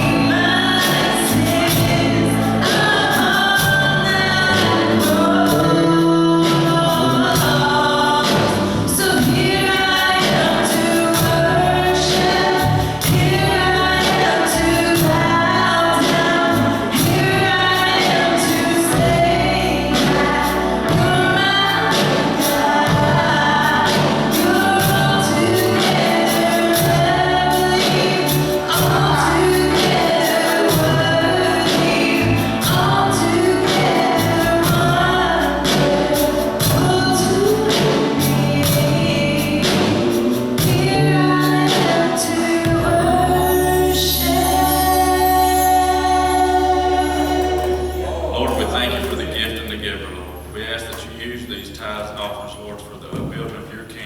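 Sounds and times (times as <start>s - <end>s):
gospel singing with accompaniment: 0.0s - 54.0s.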